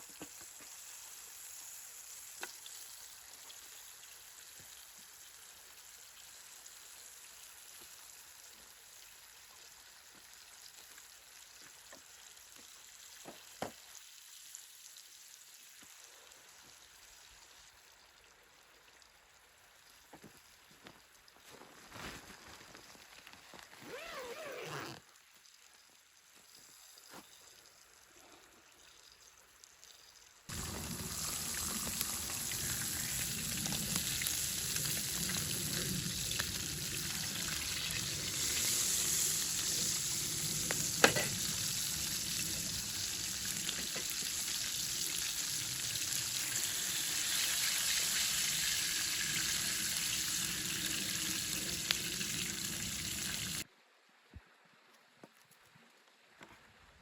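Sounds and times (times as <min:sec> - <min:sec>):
steady sizzling hiss: 0:00.0 - 0:23.7, 0:25.1 - 0:54.4.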